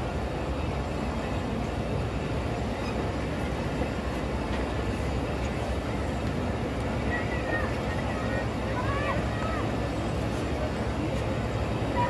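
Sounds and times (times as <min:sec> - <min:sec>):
train coaches rumbling on rails: 0:00.0 - 0:12.0.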